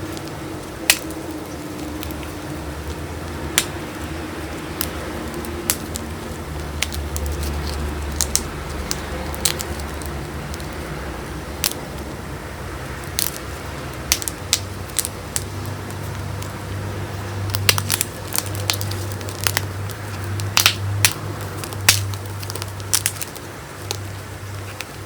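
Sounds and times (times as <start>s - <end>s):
chalk crunching between fingers: 0.0s - 12.2s, 12.8s - 25.0s.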